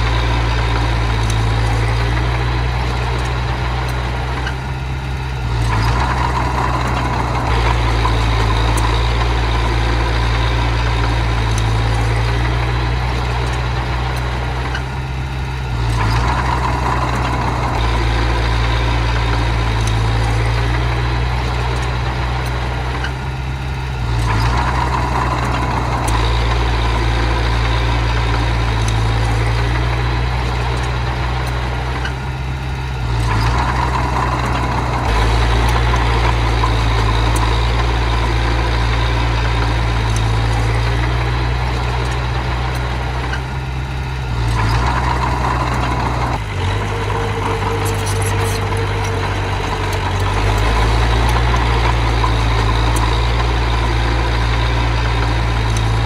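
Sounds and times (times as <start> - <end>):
bulldozer engine running: 0.0 - 56.0.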